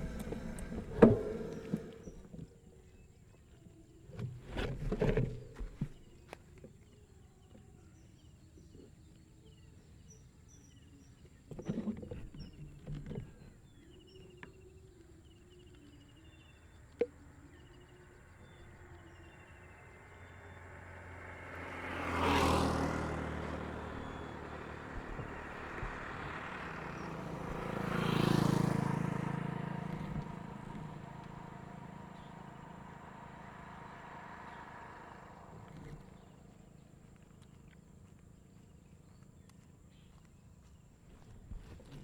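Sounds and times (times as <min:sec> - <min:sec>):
vehicles passing by: 0:00.0 - 0:03.1, 0:11.4 - 0:42.0.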